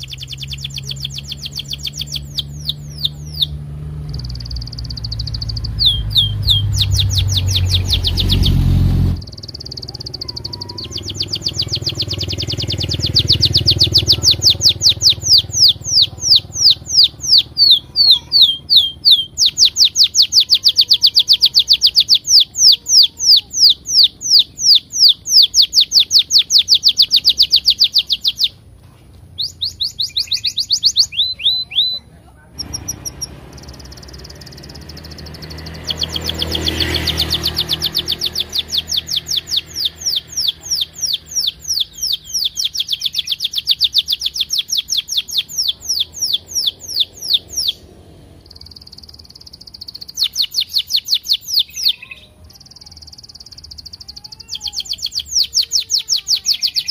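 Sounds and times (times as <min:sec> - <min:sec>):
canary singing: 0:00.0 - 0:56.9
motorbike engine hum: 0:00.0 - 0:56.9.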